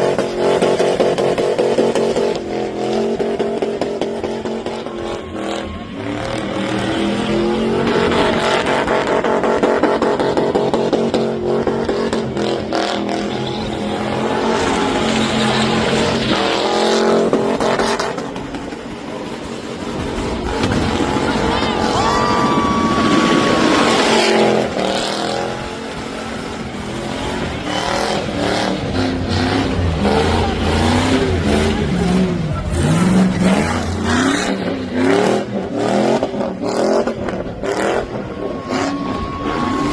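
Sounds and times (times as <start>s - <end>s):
truck engine revving high: 0.0s - 39.9s.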